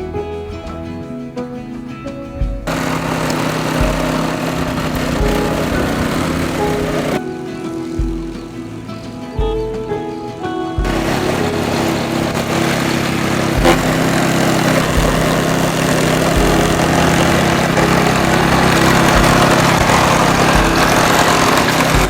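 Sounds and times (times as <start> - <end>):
background music: 0.0 - 22.0
low thumps: 0.0 - 22.0
grass mower engine running: 2.6 - 9.2, 10.8 - 22.0.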